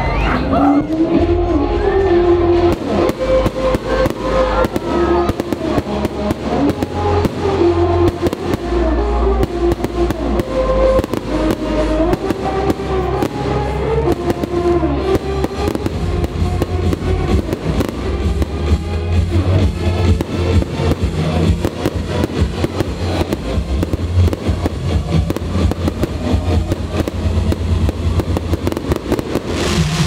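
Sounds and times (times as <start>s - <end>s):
loud music with deep bass: 0.0s - 30.0s
fireworks bursting and crackling: 0.8s - 30.0s.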